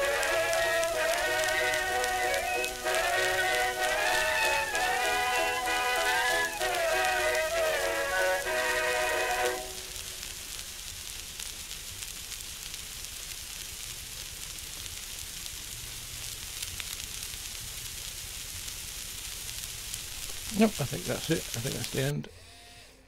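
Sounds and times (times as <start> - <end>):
record surface hiss and crackle: 0.0 - 22.4.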